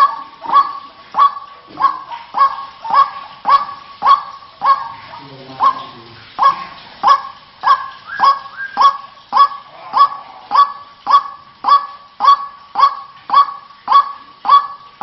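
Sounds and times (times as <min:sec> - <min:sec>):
bird harsh repeated call: 0:00.0 - 0:15.0.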